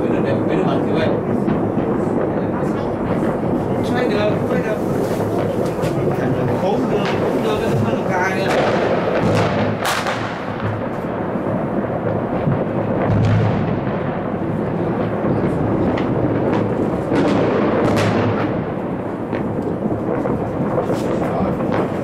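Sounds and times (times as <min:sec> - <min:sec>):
distant fireworks rumbling: 0:00.0 - 0:22.0
firecrackers cracking: 0:00.0 - 0:22.0.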